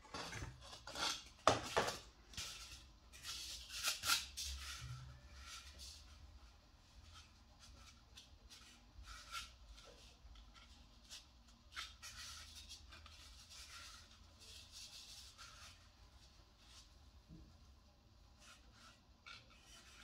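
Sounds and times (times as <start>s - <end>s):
hands rubbing dried gourd: 0.1s - 17.2s.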